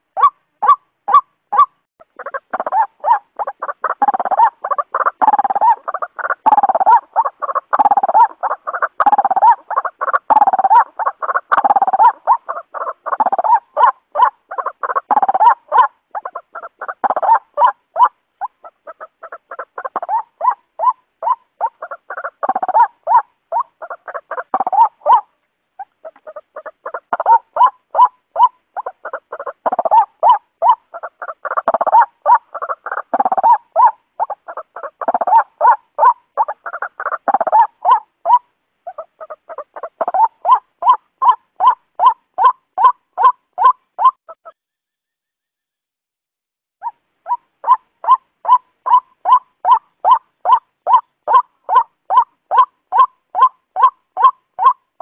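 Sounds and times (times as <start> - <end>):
waterhen calling: 0.0 - 44.6, 46.8 - 55.0.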